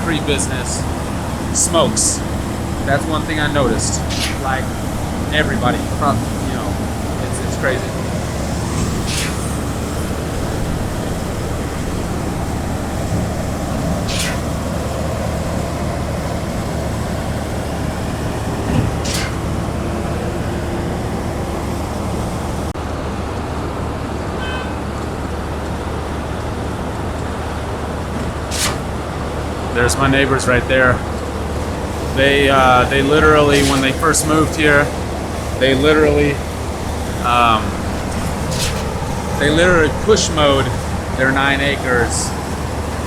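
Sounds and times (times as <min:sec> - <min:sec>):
heavy diesel engine rumbling: 0:00.0 - 0:43.0.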